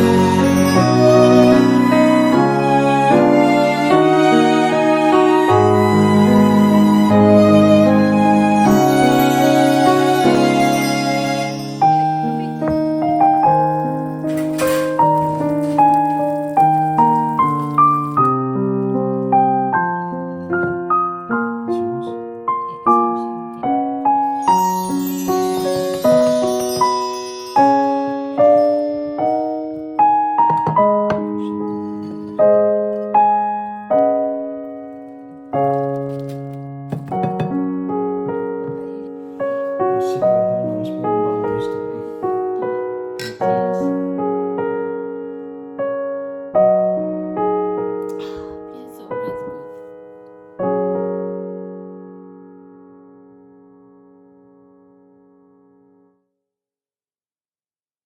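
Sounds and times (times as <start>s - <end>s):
gentle piano music: 0.0s - 56.2s.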